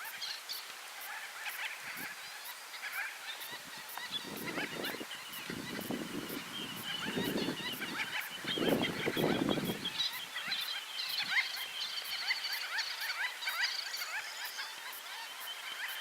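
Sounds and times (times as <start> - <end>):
chorus of bird chirps: 0.0 - 16.0.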